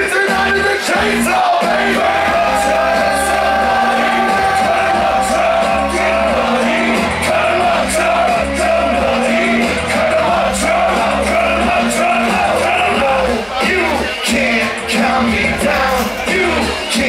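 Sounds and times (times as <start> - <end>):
loud hip-hop rock concert music: 0.0 - 17.0
people shouting or singing: 0.0 - 17.0.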